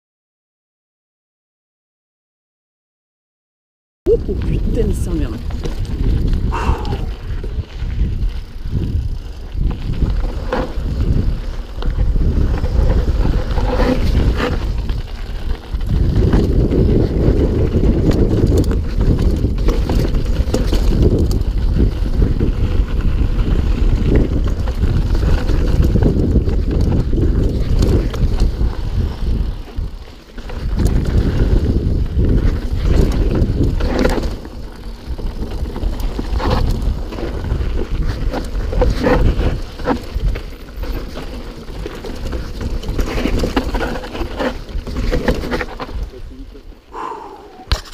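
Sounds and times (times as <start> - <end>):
wind buffeting microphone: 4.1 - 47.9
bike rattling and clattering: 4.3 - 46.9.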